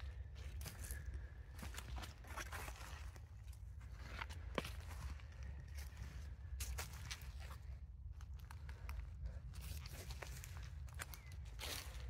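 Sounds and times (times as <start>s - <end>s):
footsteps crunching on woodland ground: 0.0s - 12.0s.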